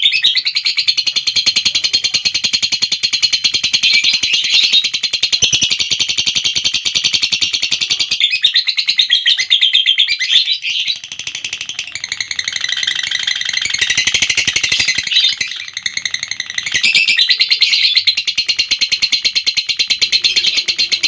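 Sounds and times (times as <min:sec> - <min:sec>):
bird chattering trill: 0:00.0 - 0:21.0.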